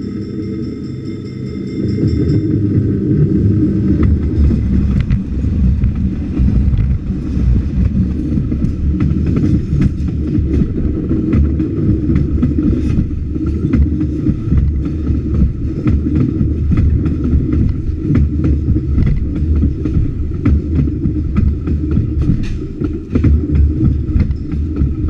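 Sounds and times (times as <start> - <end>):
train coaches rumbling past: 0.0 - 25.0
wheels clanking on rail joints: 0.0 - 25.0.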